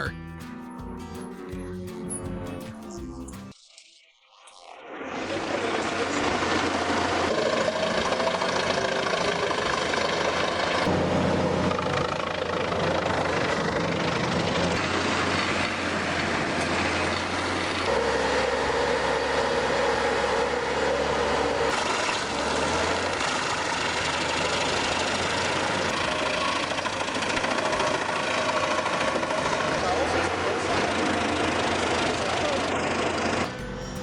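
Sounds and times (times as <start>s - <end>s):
wood chipper shredding wood: 5.5s - 33.4s
diesel engine hum: 6.2s - 34.0s.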